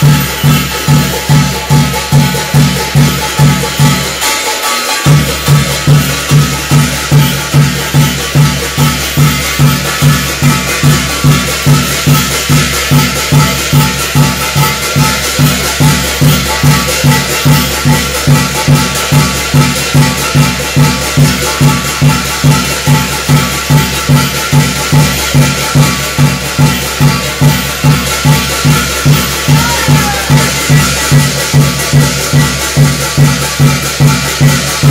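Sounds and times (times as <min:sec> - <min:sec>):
drum beating steady rhythm: 0:00.0 - 0:34.9
metallic jingling of bells: 0:00.0 - 0:34.9.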